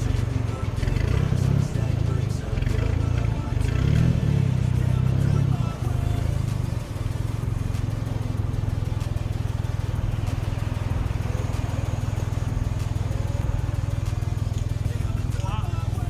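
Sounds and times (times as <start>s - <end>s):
off-road vehicle engine idling: 0.0s - 16.0s.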